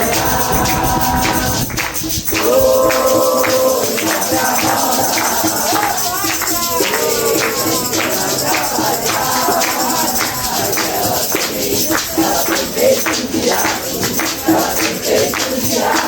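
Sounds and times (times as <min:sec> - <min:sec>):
jingling hand percussion: 0:00.0 - 0:16.0
person singing: 0:00.0 - 0:16.0.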